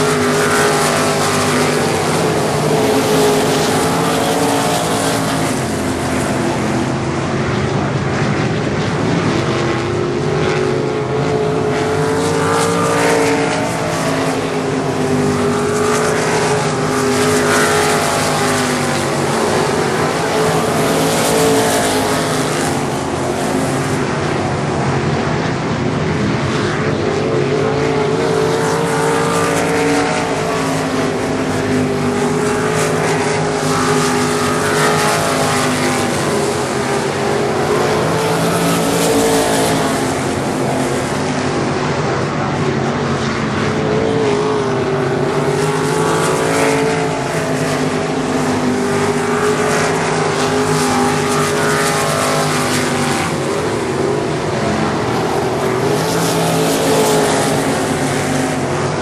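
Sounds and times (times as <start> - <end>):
racing car engines: 0.0 - 59.0.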